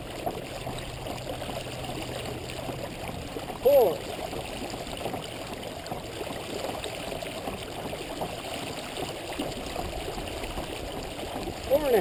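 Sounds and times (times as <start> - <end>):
water splashing along kayak hull: 0.0 - 12.0.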